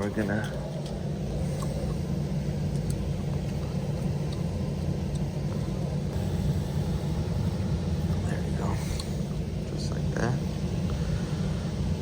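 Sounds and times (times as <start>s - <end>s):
air handler blower running: 0.0s - 12.0s.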